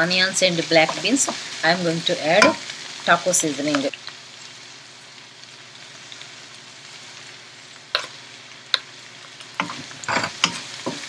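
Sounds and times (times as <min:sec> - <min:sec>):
onions and beans sizzling in pan: 0:00.0 - 0:11.0.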